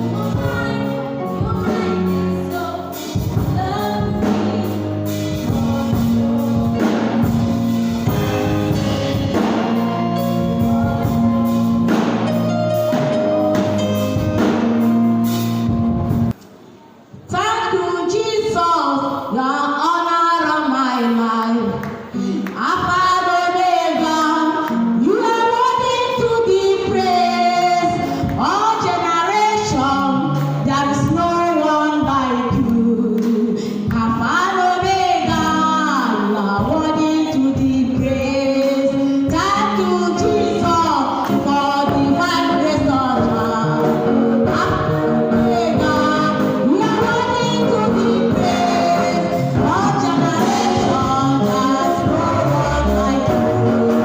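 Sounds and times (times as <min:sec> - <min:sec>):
women singing gospel: 0:00.0 - 0:11.5, 0:19.3 - 0:54.0
instrumental accompaniment: 0:00.0 - 0:16.7, 0:21.7 - 0:54.0.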